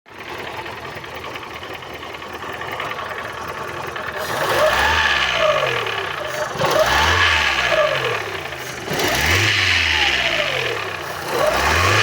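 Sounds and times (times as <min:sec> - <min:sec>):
engine running with mechanical clatter: 0:00.1 - 0:12.0.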